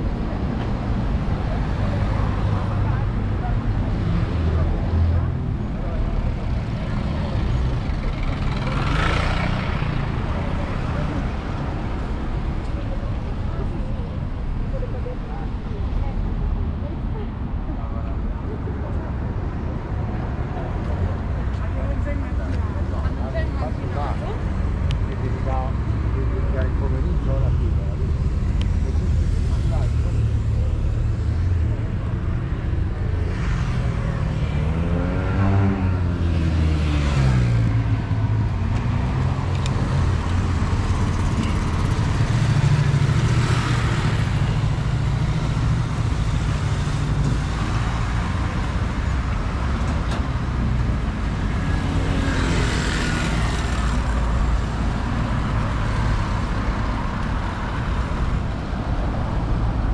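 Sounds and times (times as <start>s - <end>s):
traffic rumble: 0.0s - 59.9s
vehicles passing by: 0.0s - 59.9s.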